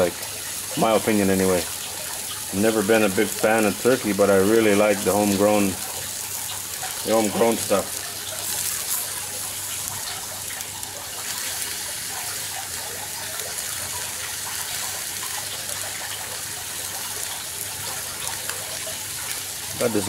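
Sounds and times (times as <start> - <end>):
meat sizzling on a grill: 0.0 - 20.0.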